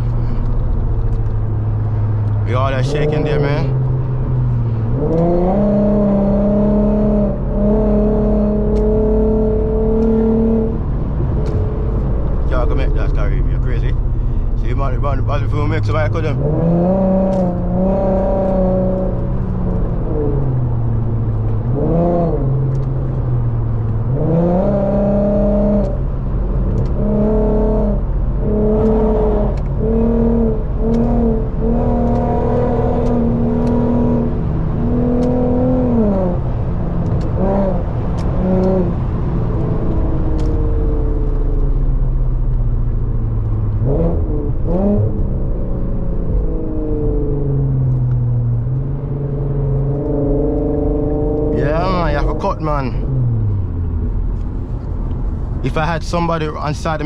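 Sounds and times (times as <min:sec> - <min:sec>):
car engine accelerating hard: 0:00.0 - 0:57.0
road rumble: 0:00.0 - 0:57.0.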